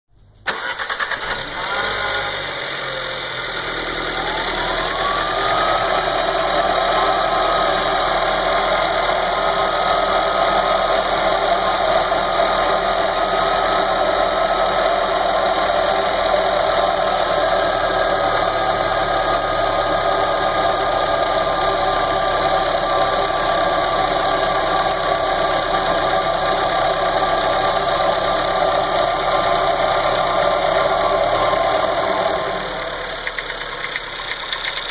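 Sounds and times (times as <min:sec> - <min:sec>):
car engine starting and idling: 0:00.4 - 0:34.9
thin engine whine: 0:00.5 - 0:33.6.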